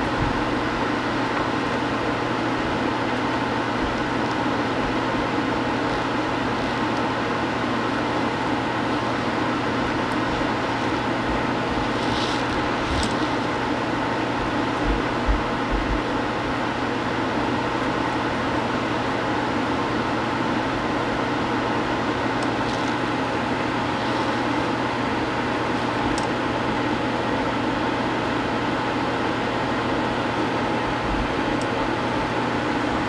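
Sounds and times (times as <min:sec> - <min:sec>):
constant low hum: 0:00.0 - 0:33.0.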